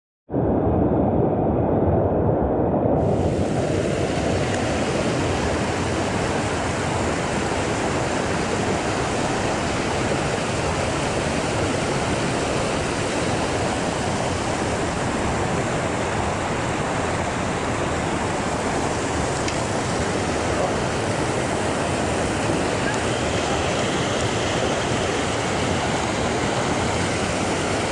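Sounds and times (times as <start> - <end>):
stream rushing over cascades: 3.0 - 27.9.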